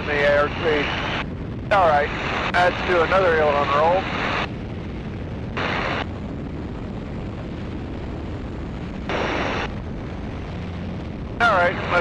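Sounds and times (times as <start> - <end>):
biplane engine rumbling: 0.0 - 12.0.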